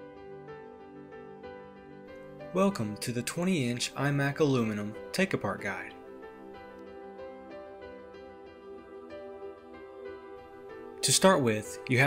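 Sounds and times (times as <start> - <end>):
quiet instrumental music: 0.0 - 12.0.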